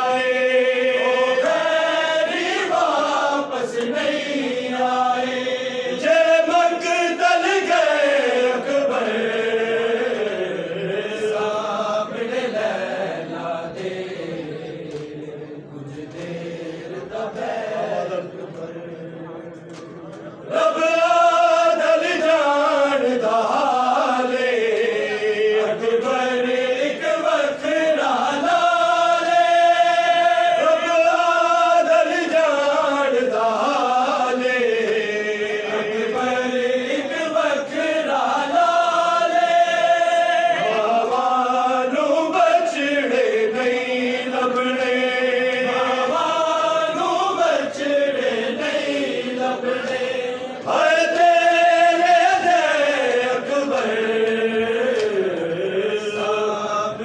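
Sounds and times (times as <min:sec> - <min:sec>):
man singing a lament into a microphone: 0:00.0 - 0:14.9, 0:20.5 - 0:57.0.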